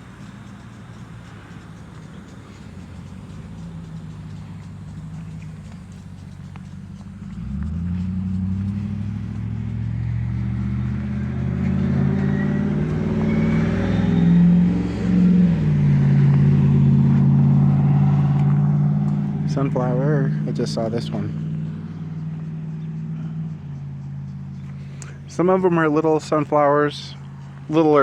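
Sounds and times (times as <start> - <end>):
drone propellers humming: 0.0 - 28.0.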